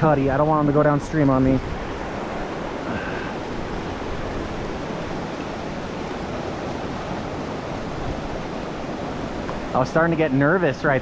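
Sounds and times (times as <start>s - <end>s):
creek water rushing through rapids: 0.0s - 11.0s.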